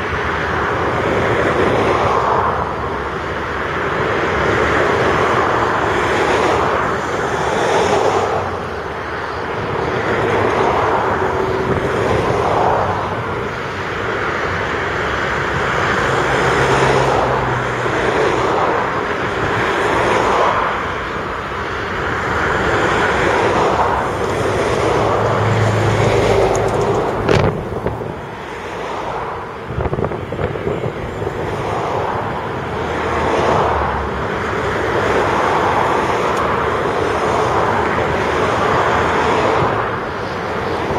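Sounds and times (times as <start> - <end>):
diesel engines of heavy machinery: 0.0 - 40.9.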